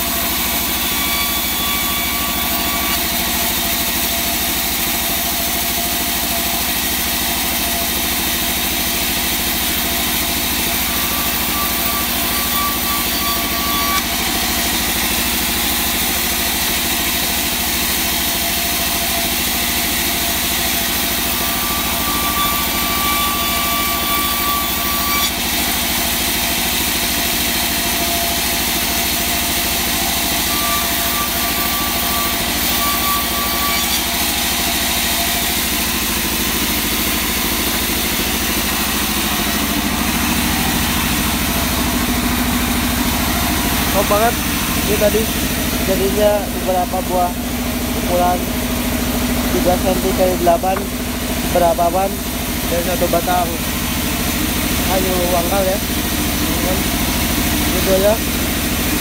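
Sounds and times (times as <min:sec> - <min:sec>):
band saw cutting wood: 0:00.0 - 0:59.0.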